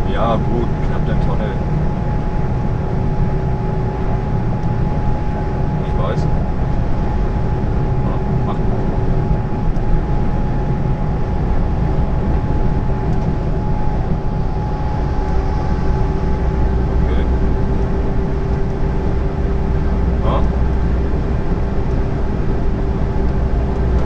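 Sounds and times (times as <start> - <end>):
diesel engine: 0.0 - 24.0
steady hum: 0.0 - 24.0.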